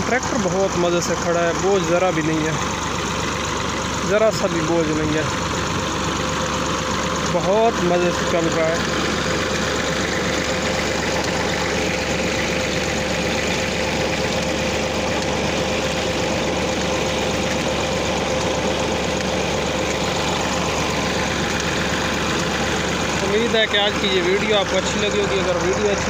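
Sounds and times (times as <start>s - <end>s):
tractor diesel engine idling: 0.0s - 26.0s.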